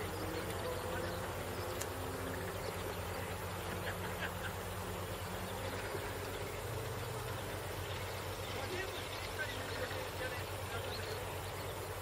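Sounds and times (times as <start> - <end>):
frogs calling: 0.0 - 12.0
low steady hum: 0.0 - 12.0.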